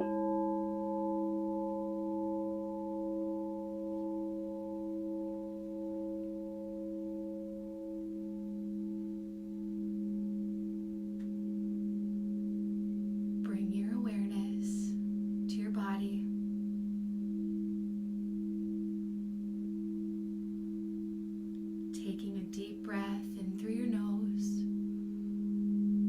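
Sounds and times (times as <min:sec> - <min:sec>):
singing bowls ringing: 0:00.0 - 0:26.0.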